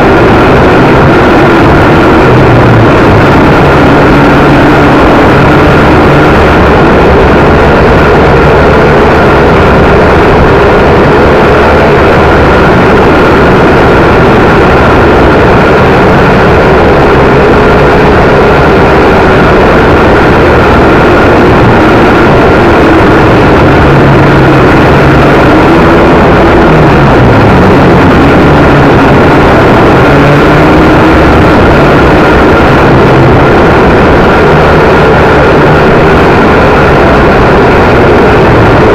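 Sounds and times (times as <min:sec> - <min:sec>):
wind noise on microphone: 0:00.0 - 0:38.9.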